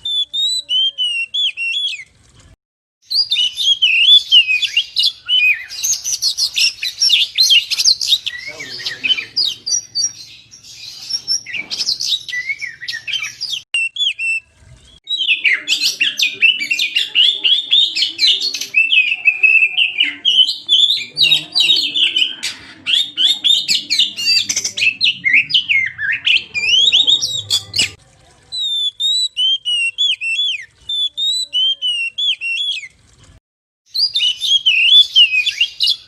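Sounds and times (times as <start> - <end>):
magpie-robin singing: 3.1 - 14.4, 15.0 - 28.0, 28.6 - 32.9, 33.9 - 36.0.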